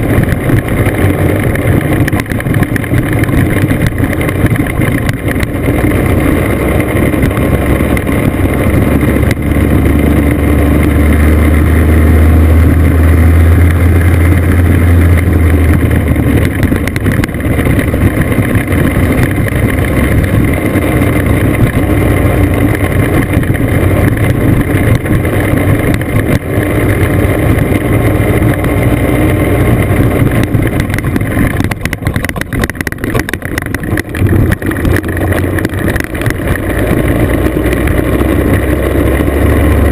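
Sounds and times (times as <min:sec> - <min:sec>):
road noise on gravel: 0:00.0 - 0:39.9
scooter engine running: 0:00.0 - 0:39.9
wind: 0:00.0 - 0:39.9.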